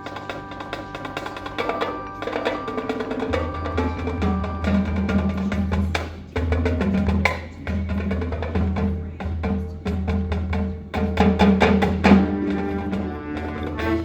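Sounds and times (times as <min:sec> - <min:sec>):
marching band playing: 0:00.0 - 0:14.0
percussion clicks and drum hits: 0:00.0 - 0:14.0.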